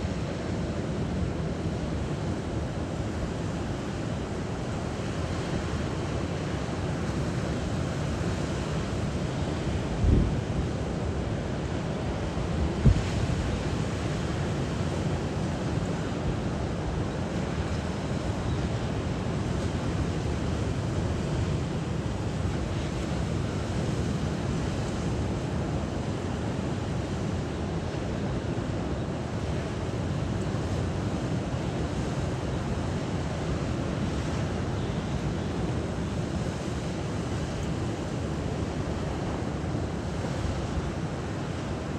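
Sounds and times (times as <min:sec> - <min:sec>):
rushing water: 0:00.0 - 0:41.9
wind rumble on microphone: 0:07.1 - 0:41.9.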